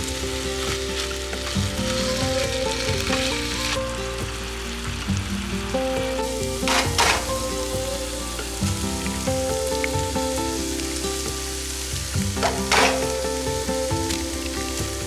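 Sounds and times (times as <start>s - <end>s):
background music: 0.0s - 15.0s
sausage sizzling in a frying pan: 0.0s - 15.0s.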